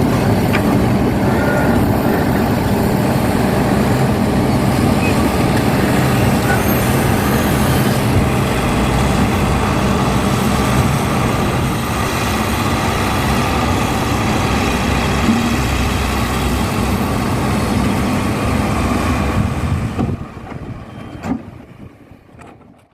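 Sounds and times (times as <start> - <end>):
diesel engine running: 0.0 - 22.4.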